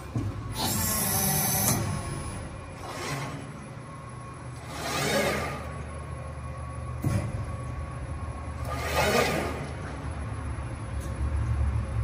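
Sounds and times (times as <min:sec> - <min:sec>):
machine whirring: 0:00.0 - 0:11.9.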